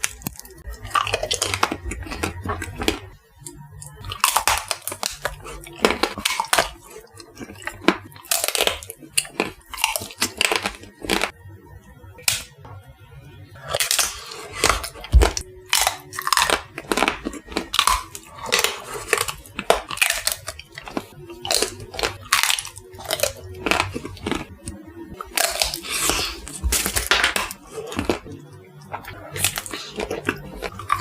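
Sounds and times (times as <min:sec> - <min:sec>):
chewing crunchy chocolate: 0:00.0 - 0:11.4, 0:13.6 - 0:31.0.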